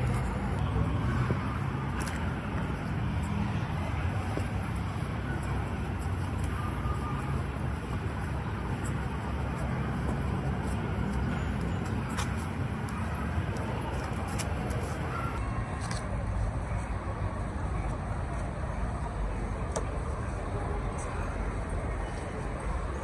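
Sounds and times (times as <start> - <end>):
market bustle: 0.0 - 23.0
traffic rumble: 0.0 - 23.0.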